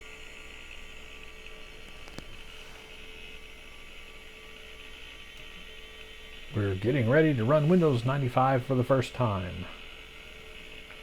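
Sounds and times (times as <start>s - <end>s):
computer electrical hum: 0.0s - 11.0s
computer fan hiss: 0.0s - 11.0s.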